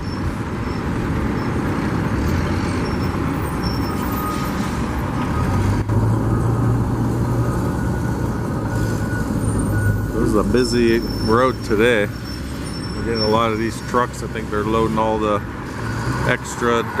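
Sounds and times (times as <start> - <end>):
heavy truck engine running: 0.0 - 17.0
road traffic: 0.0 - 17.0.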